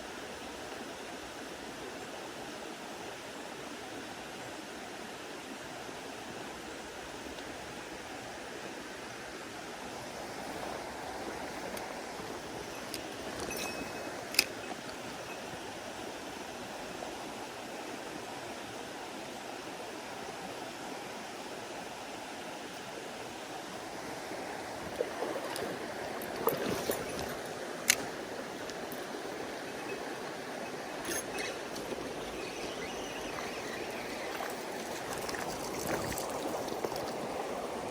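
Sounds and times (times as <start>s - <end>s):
mountain stream running: 0.0s - 37.9s.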